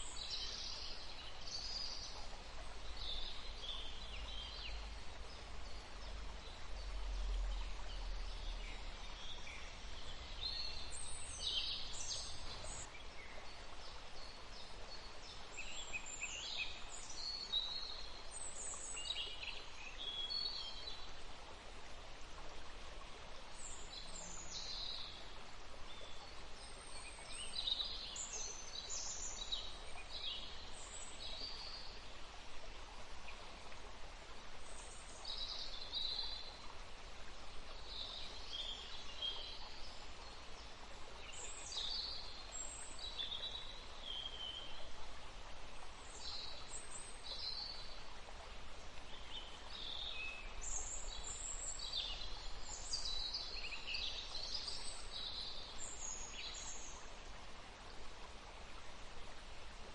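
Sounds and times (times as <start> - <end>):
songbirds chirping: 0.0 - 59.9
steady background hiss: 0.0 - 59.9.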